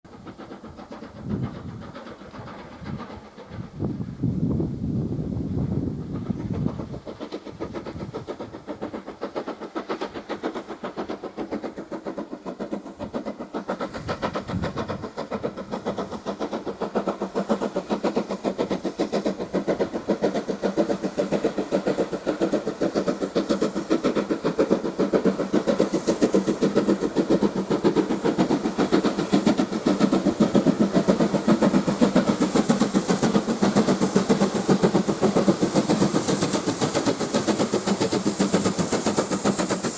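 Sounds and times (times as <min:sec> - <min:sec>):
steam locomotive exhaust beating: 0:00.1 - 0:39.9.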